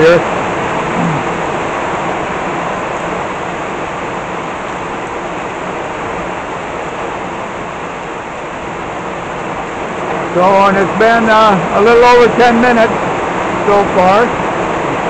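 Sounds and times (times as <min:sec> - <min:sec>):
heavy rain on roof: 0:00.0 - 0:15.0
water running off roof: 0:00.0 - 0:15.0.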